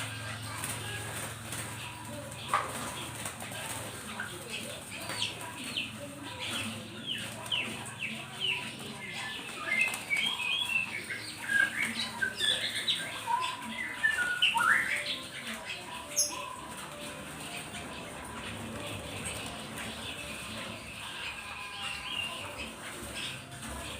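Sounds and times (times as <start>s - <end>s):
songbirds chirping: 0.0s - 23.9s.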